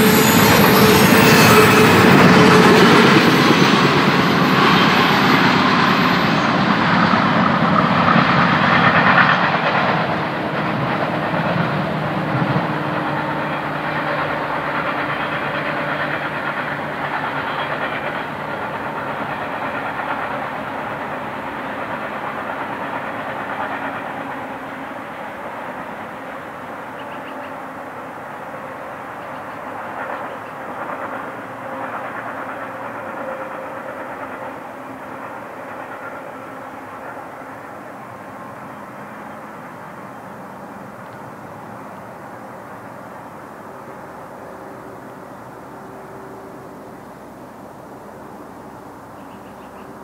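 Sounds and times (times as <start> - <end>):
freight train rolling on rails: 0.0 - 50.0.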